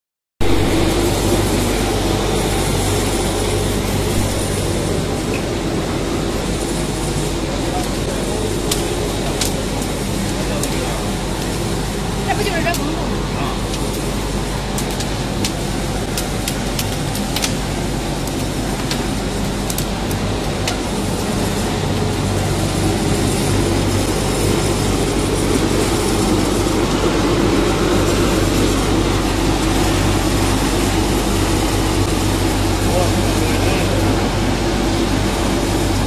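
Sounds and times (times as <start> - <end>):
drum dryer drone: 0.4 - 36.0.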